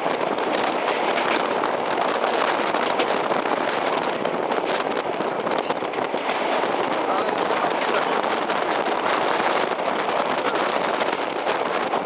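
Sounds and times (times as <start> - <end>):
passenger train running at speed: 0.0 - 12.0.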